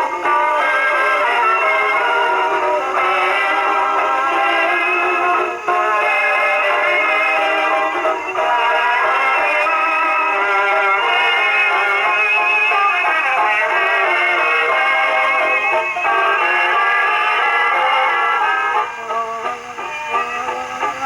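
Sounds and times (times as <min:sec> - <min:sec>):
dance-band record on phonograph: 0:00.0 - 0:21.0.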